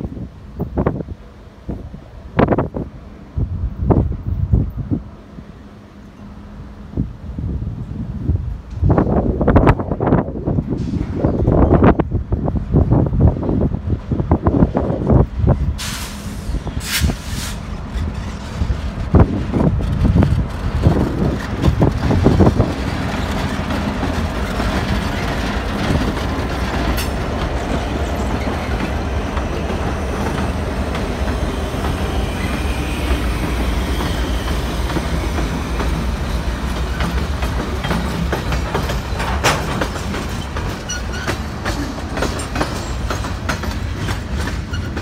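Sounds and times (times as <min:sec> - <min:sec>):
diesel locomotives running: 0:00.0 - 0:45.0
freight cars rumbling on rails: 0:00.0 - 0:45.0.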